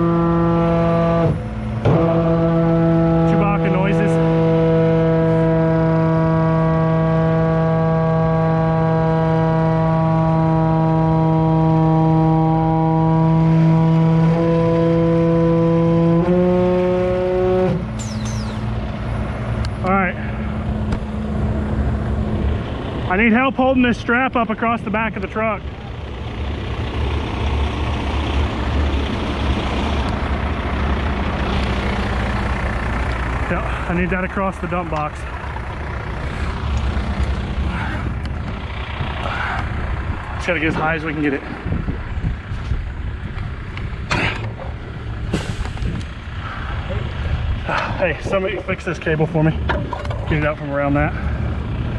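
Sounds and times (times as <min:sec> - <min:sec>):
truck diesel engine idling: 0:00.0 - 0:14.3, 0:17.8 - 0:51.9.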